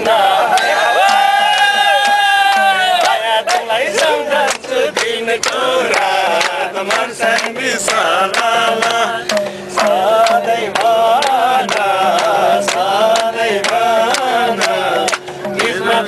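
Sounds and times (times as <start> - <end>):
men singing in chorus: 0.0 - 16.0
sharp hand claps: 0.5 - 15.9.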